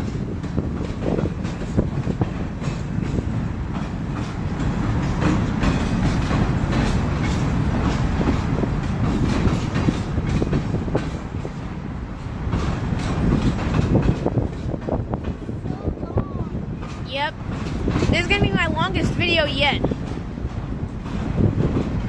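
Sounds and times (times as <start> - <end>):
train rumble: 0.0 - 22.0
train wheels clacking: 0.0 - 22.0.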